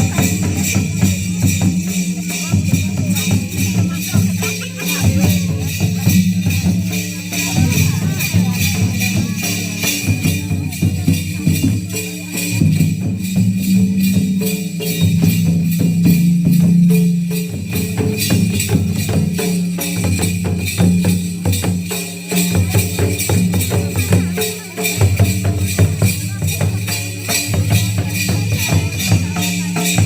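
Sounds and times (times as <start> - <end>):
fast steady drumming: 0.0 - 30.0
jingling percussion: 0.0 - 30.0.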